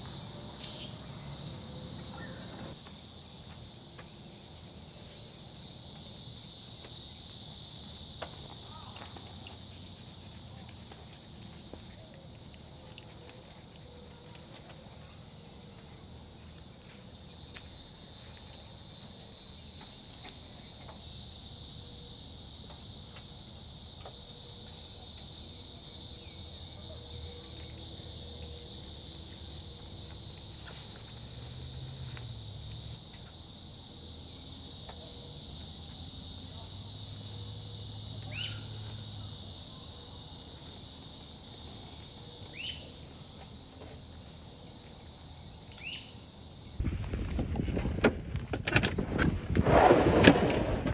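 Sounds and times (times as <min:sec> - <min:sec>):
insects chorus pulsing: 0:00.0 - 0:11.7, 0:17.2 - 0:50.9.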